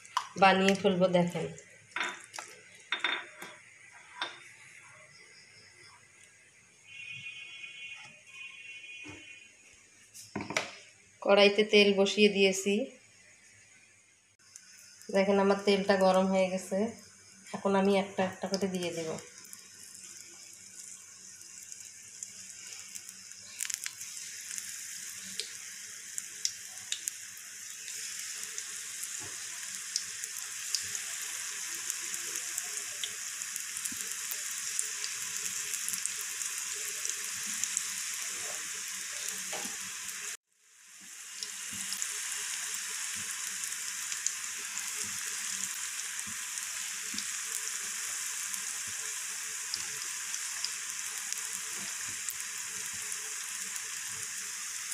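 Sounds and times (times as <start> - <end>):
deep-frying sizzle with pops: 0.0 - 9.4, 10.0 - 54.9.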